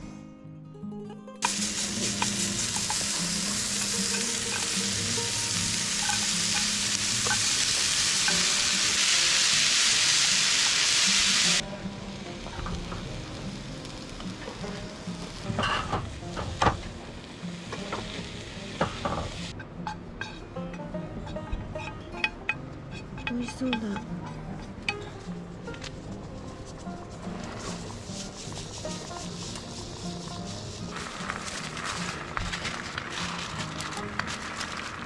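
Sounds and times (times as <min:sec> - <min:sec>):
food sizzling in frying: 0:01.4 - 0:20.4, 0:25.8 - 0:35.0.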